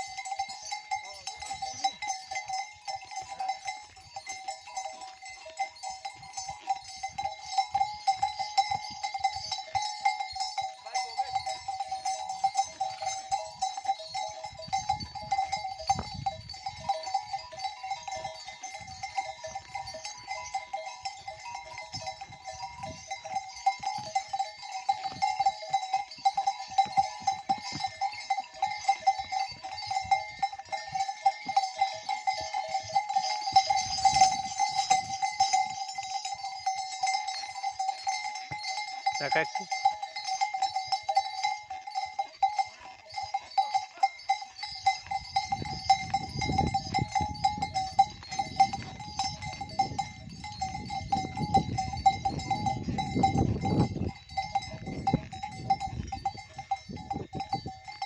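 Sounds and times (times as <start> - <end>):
harness bells jingling: 0.0 - 58.0.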